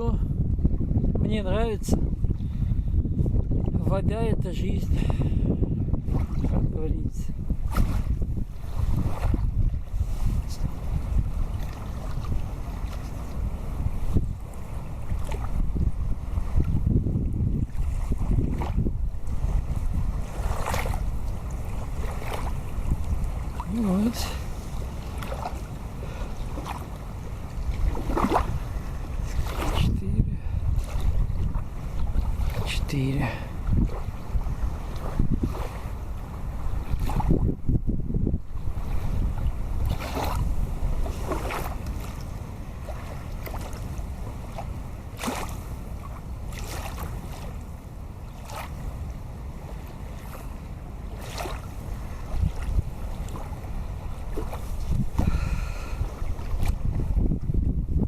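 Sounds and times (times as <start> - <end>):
wind rumbling on microphone: 0.0 - 58.0
river water lapping: 4.8 - 57.7.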